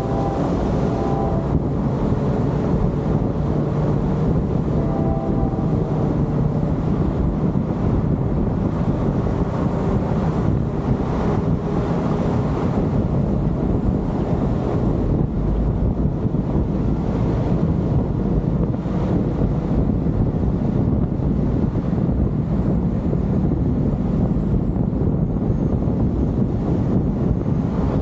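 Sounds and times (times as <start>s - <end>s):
road and engine rumble: 0.0s - 28.0s
wind on microphone: 0.0s - 28.0s.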